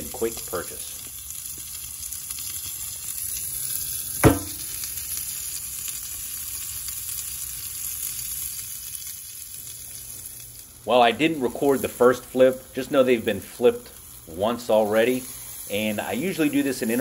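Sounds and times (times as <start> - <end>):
charcoal fire sizzling: 0.0 - 17.0
fire popping: 0.0 - 17.0.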